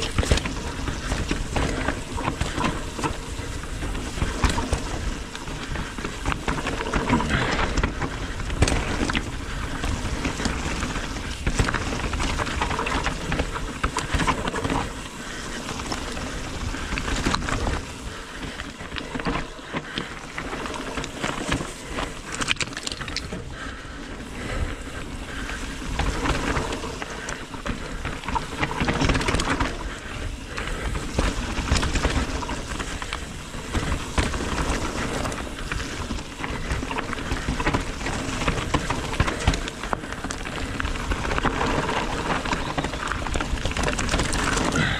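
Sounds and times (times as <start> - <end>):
bike rattling over bumps: 0.0 - 44.9
tyres crunching and skidding on gravel: 0.0 - 44.9.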